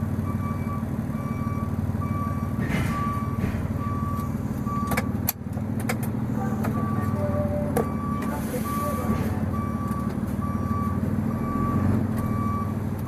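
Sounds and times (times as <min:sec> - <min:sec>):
truck backup alarm beeping: 0:00.0 - 0:05.3, 0:06.4 - 0:13.0
truck engine droning: 0:00.0 - 0:13.0.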